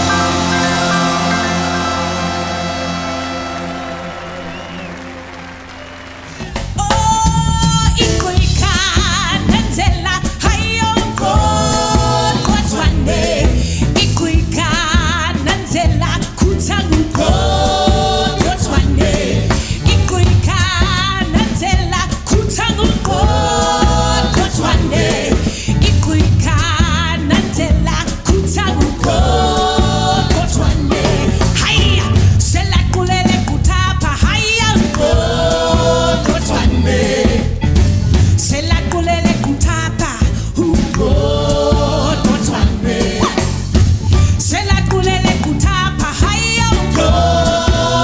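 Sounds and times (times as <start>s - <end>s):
upbeat band music: 0.0s - 48.0s.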